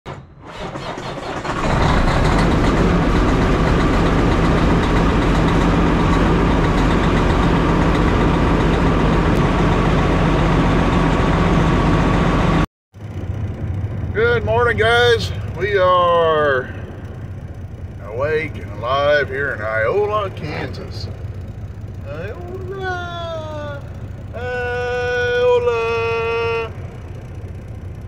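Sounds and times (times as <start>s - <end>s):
diesel truck engine running: 0.2s - 28.0s.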